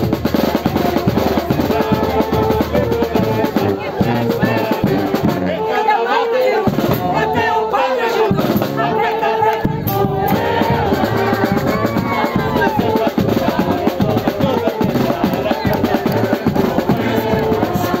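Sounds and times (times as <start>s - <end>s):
crowd singing and calling out: 0.0s - 18.0s
lively band music: 0.0s - 18.0s.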